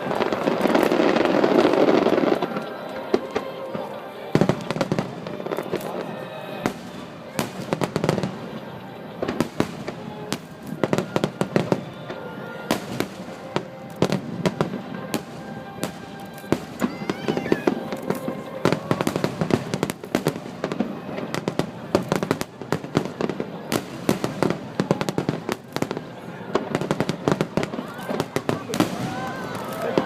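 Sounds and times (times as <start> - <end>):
fireworks bursting and crackling: 0.0 - 30.0
music playing: 0.0 - 30.0.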